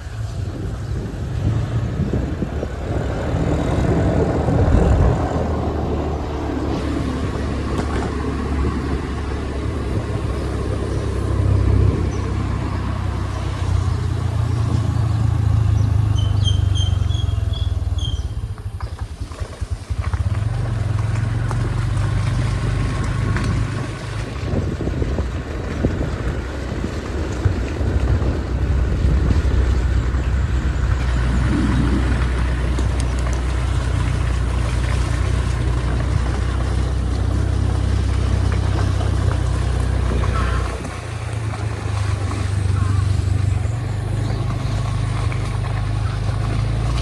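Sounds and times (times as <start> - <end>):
road and wind noise: 0.0 - 47.0
vehicle engine drone: 0.0 - 47.0.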